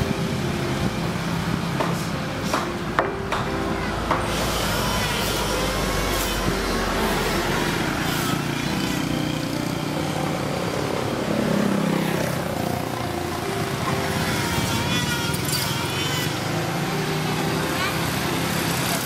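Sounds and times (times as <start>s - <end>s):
motorcycle engines passing: 0.0s - 19.0s
street traffic: 0.0s - 19.0s.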